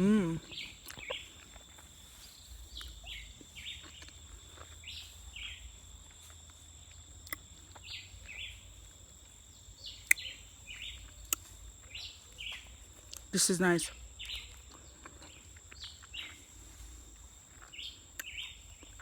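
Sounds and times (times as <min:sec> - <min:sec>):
birds chirping: 0:00.0 - 0:05.9, 0:07.6 - 0:19.0.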